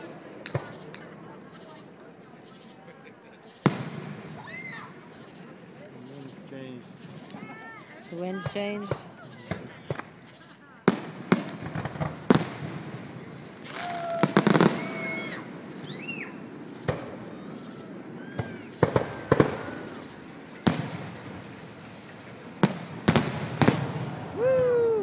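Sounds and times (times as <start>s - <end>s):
firework whistles: 0.0s - 25.0s
fireworks bangs: 0.0s - 25.0s.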